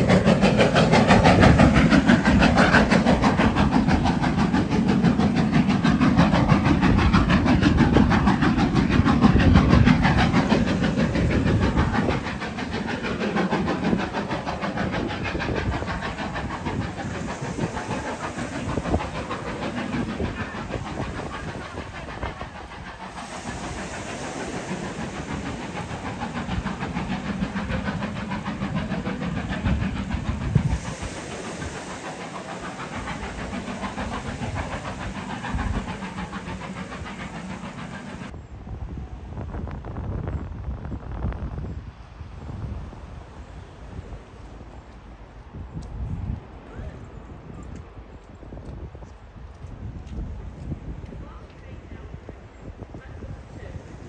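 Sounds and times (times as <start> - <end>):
train running past: 0.0 - 54.0.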